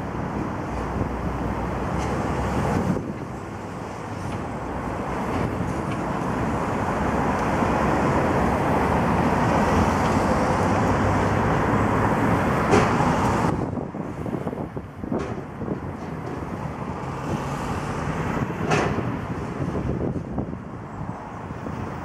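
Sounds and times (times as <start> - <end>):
road traffic rushing past: 0.0 - 22.0.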